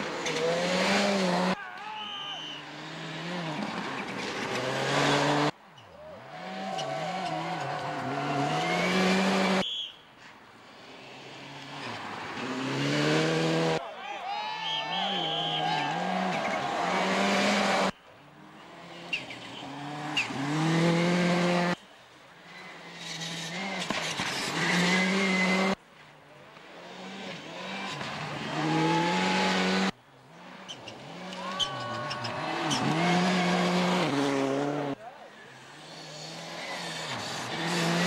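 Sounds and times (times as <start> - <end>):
rally car engines accelerating: 0.0 - 1.6, 2.4 - 9.6, 10.6 - 13.8, 14.8 - 21.8, 22.4 - 25.8, 26.5 - 38.0.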